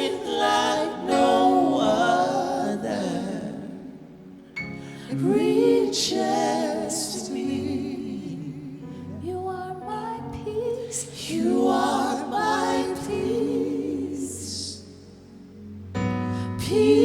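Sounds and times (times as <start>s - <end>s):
voices singing gospel: 0.0s - 15.6s, 16.3s - 17.0s.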